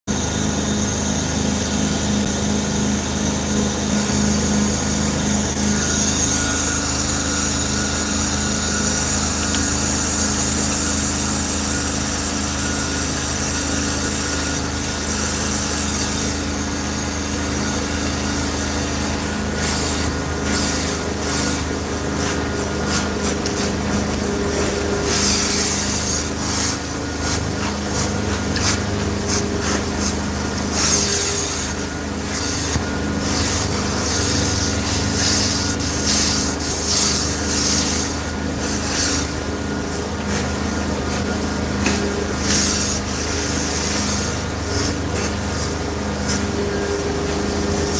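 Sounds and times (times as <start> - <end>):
carpet cleaning machine hum: 0.1 - 47.9.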